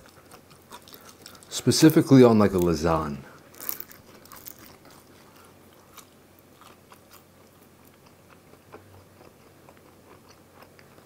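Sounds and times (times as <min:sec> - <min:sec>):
faint chewing of crust: 0:00.0 - 0:11.0.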